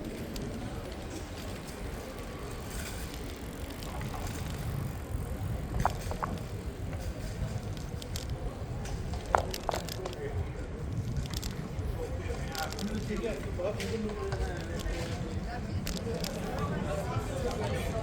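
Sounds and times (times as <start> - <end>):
bicycle tyres rumbling on road: 0.0 - 18.0.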